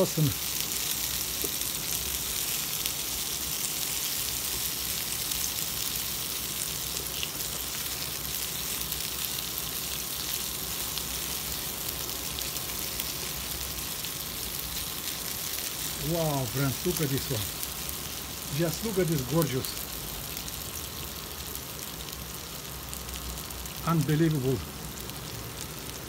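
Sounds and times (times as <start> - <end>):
chicken sizzling in hot oil: 0.0 - 26.0.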